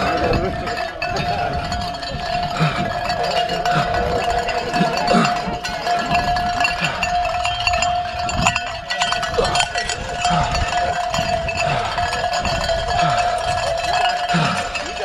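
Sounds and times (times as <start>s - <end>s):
bell ringing continuously: 0.0s - 15.0s.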